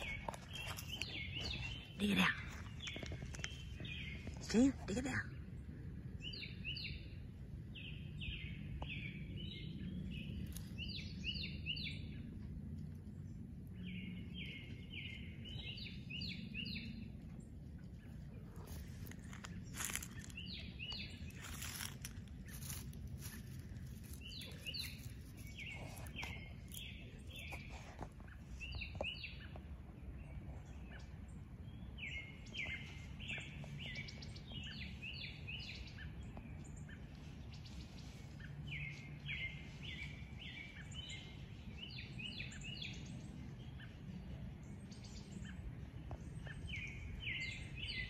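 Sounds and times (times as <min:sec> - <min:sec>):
low outdoor rumble: 0:00.0 - 0:48.0
songbird singing: 0:00.0 - 0:48.0.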